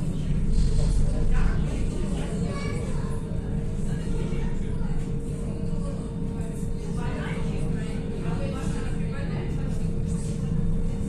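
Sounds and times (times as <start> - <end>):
electric tram rumble and hum: 0.0 - 11.0.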